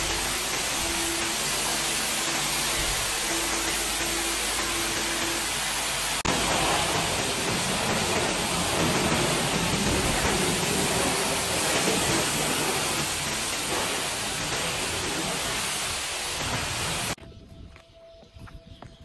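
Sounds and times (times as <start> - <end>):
car wash equipment hissing: 0.0 - 17.2.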